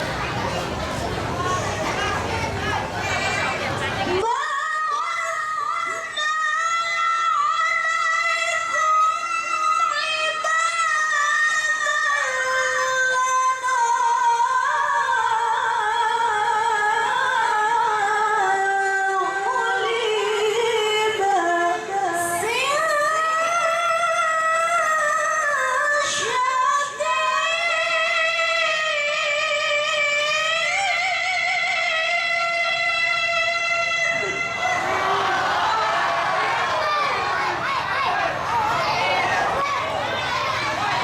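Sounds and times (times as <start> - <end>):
woman reciting melodically: 1.4 - 35.7.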